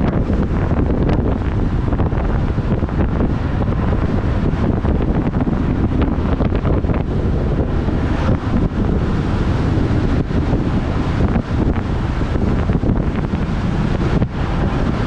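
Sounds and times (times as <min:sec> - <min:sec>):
road noise: 0:00.0 - 0:15.0
wind noise on microphone: 0:00.0 - 0:15.0.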